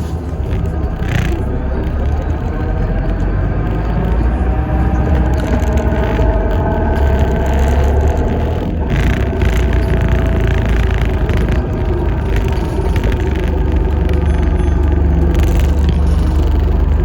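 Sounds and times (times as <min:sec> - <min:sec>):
low rumble of bus and road: 0:00.0 - 0:17.0
steady driveline whine: 0:00.0 - 0:17.0.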